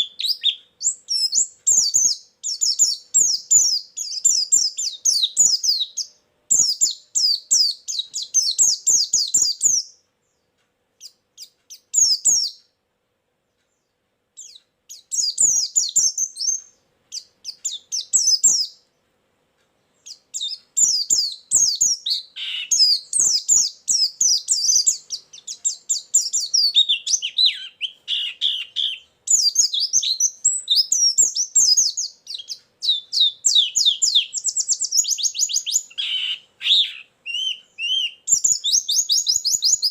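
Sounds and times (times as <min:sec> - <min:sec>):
bird twittering chirps: 0:00.0 - 0:12.7, 0:13.6 - 0:19.0, 0:19.8 - 0:39.9.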